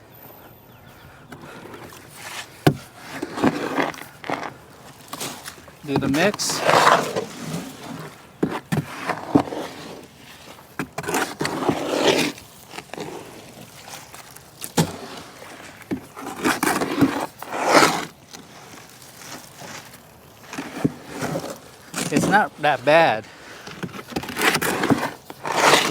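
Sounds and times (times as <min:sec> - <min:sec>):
tool scraping through wet concrete: 0:01.4 - 0:25.9.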